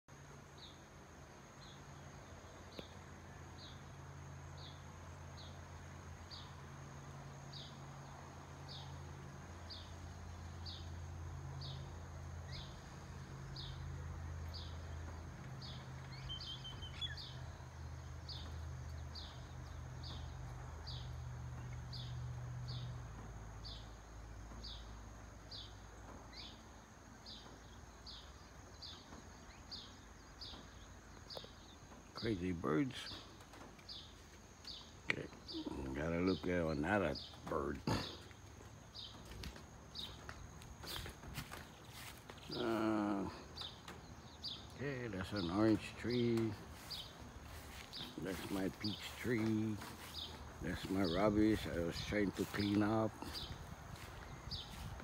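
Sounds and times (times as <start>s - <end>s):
bird chirping: 9.6s - 55.0s.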